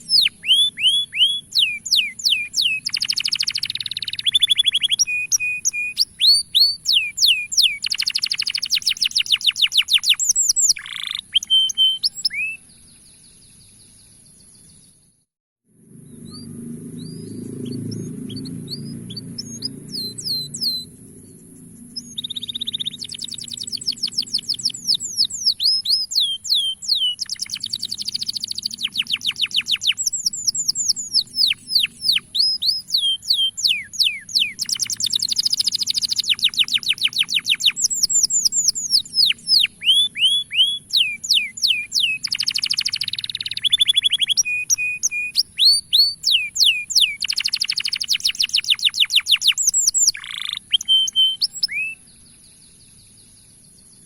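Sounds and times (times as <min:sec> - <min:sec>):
canary singing trills: 0:00.0 - 0:15.0, 0:16.0 - 0:54.0.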